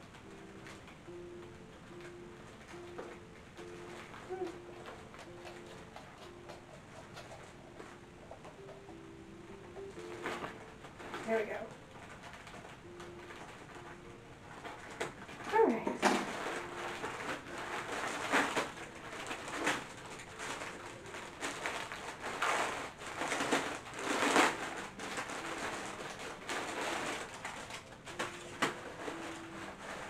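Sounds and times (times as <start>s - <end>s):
packaging rustling and crinkling: 0.0s - 30.0s.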